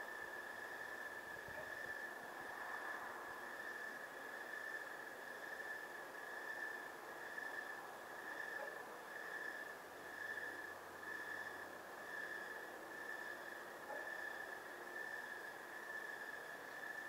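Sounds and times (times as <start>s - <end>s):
faint hiss: 0.0s - 17.0s
insects trilling: 0.0s - 17.0s.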